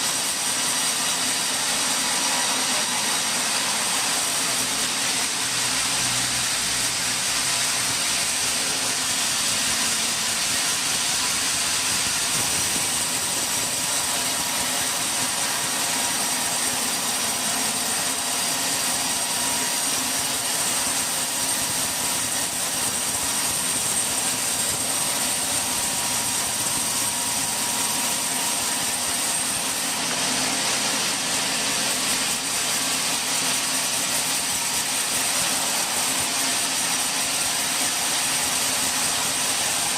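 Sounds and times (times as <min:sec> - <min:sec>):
constant high whine: 0:00.0 - 0:39.9
sawmill machinery hiss: 0:00.0 - 0:39.9.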